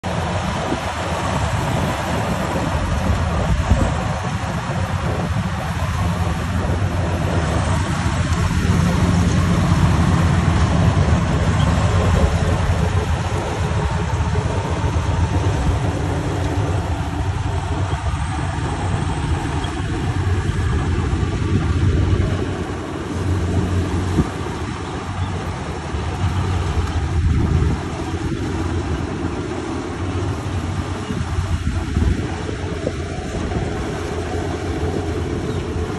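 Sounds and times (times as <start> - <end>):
combine harvester engine drone: 0.0 - 35.9.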